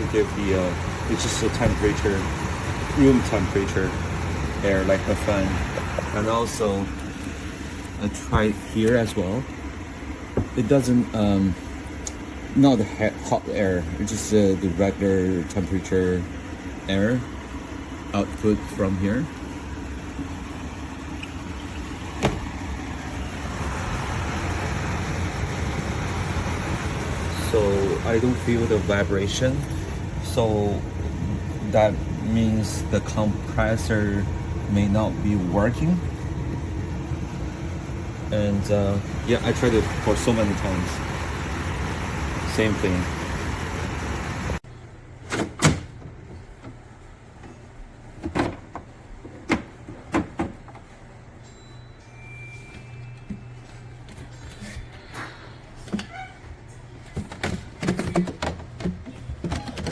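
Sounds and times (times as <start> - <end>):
air conditioner fan rushing air: 0.0 - 59.9.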